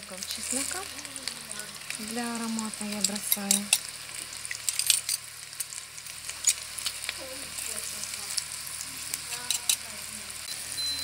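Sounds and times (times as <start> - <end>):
butter sizzling and popping: 0.0 - 11.0.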